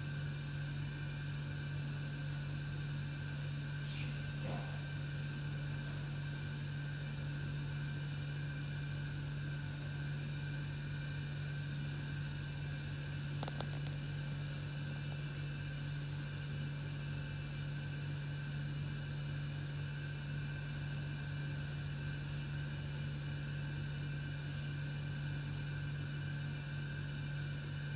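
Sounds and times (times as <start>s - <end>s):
low mechanical hum: 0.0s - 27.9s.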